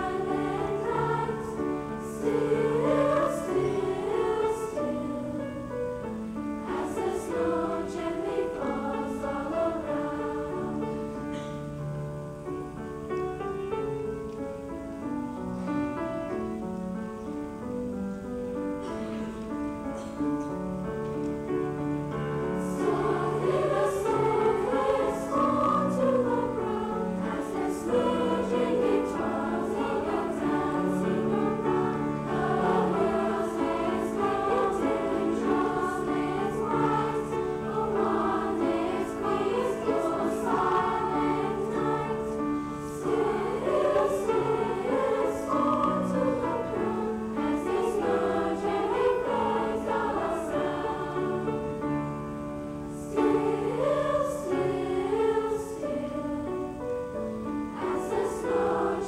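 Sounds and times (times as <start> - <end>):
choir singing: 0.0 - 14.2, 19.0 - 59.0
piano accompaniment: 0.0 - 59.0.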